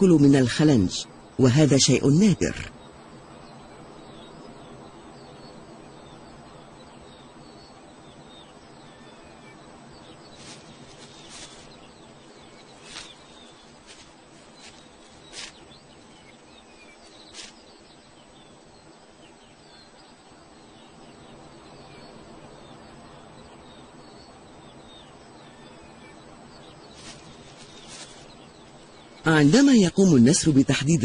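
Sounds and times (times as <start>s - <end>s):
small birds chirping: 0.0s - 31.0s
steady low hiss: 0.0s - 31.0s.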